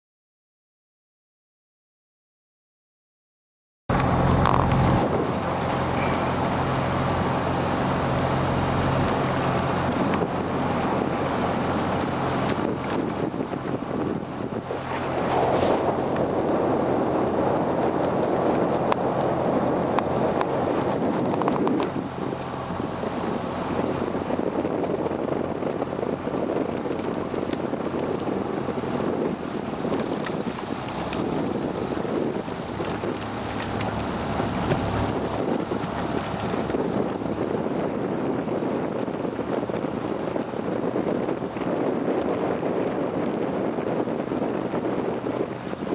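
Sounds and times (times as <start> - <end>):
open water washing: 3.9 - 45.9
wind buffeting microphone: 3.9 - 45.9.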